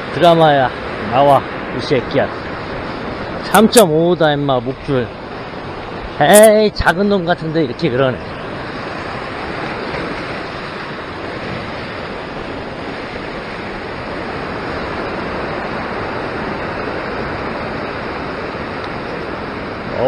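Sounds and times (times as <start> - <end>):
ocean surf washing over rocks: 0.0 - 20.0.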